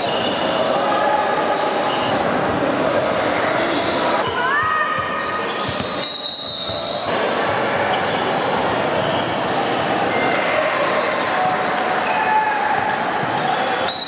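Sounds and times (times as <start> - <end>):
sneaker squeaks: 0.0 - 0.6, 1.6 - 2.4, 3.1 - 14.0
players' voices: 0.0 - 14.0.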